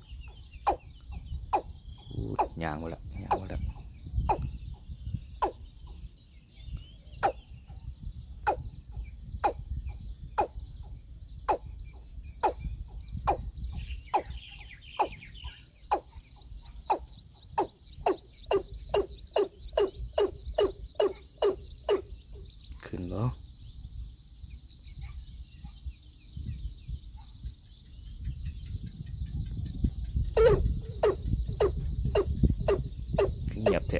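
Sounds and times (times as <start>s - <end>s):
high insect chorus: 0.0s - 33.9s.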